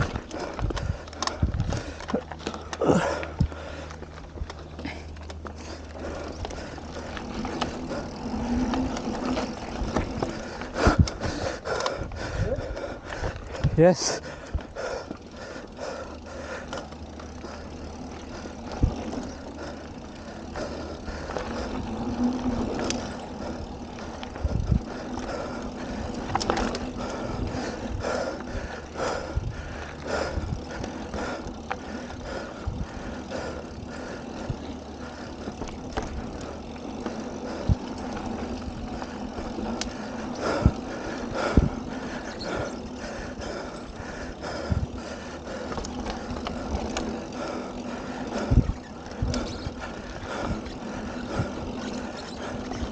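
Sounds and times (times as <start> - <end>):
bike knocking and rattling: 0.0 - 52.9
bike tyres rolling on dirt: 0.0 - 52.9.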